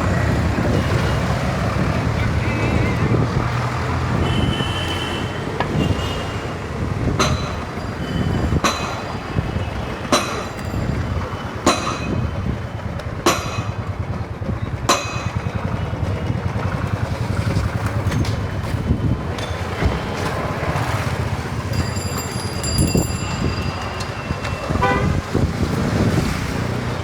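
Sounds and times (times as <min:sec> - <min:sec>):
low traffic rumble: 0:00.0 - 0:27.0.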